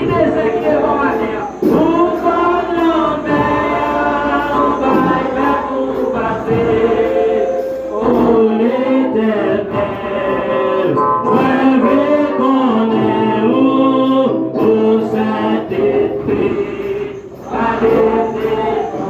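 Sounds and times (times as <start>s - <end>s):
choir singing gospel: 0.0s - 19.0s.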